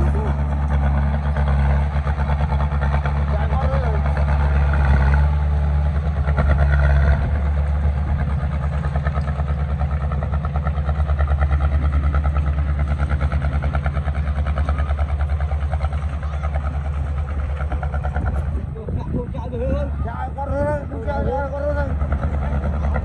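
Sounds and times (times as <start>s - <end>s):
heavy machinery diesel engine running: 0.0s - 23.0s.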